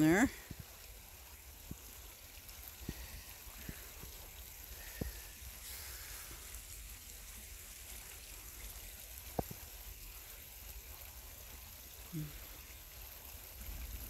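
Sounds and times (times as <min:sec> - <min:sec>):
stream trickling: 0:00.0 - 0:14.0.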